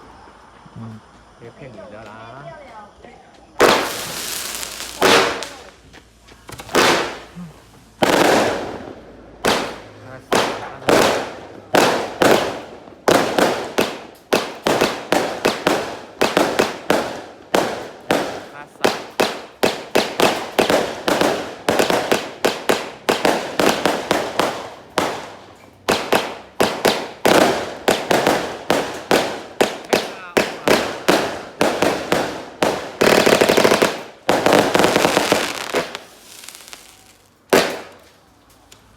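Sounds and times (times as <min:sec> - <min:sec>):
fireworks banging with echo: 0:03.6 - 0:38.8.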